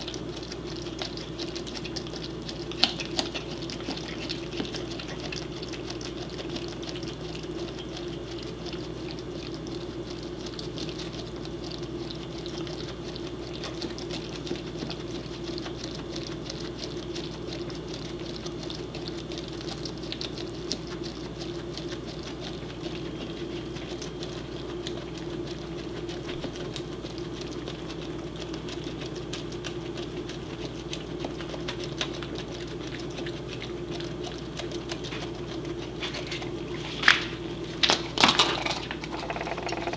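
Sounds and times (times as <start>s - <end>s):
teeth clicking on eggshell: 0.0s - 39.9s.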